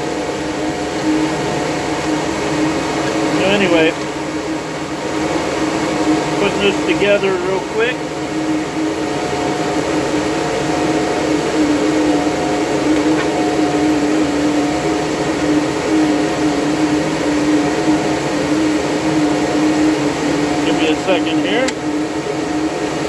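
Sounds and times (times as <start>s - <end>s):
cooling fans whirring: 0.0s - 23.0s.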